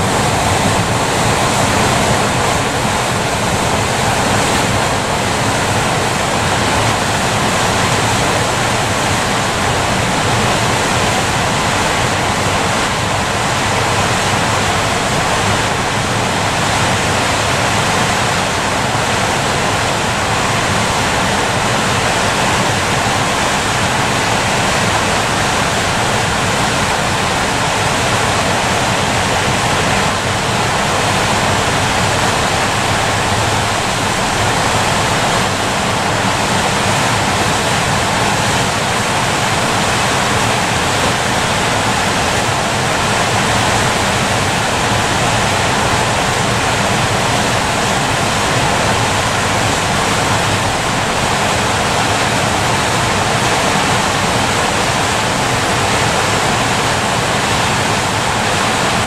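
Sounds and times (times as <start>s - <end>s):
water rushing over a weir: 0.0s - 59.0s.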